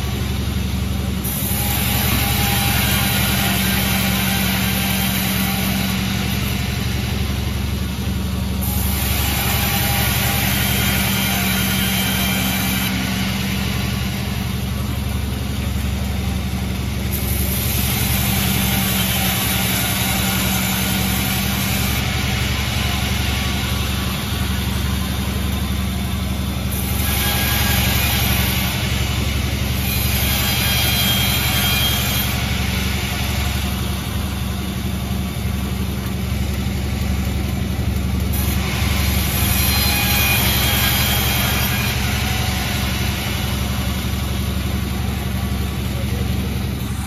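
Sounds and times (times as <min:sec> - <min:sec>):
sawmill machinery hiss: 0:00.0 - 0:47.0.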